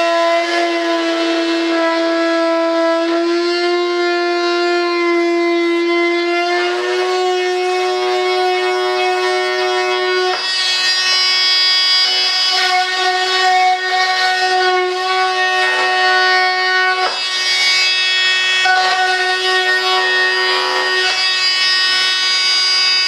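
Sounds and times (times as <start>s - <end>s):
rotary tool whining: 0.0s - 23.0s.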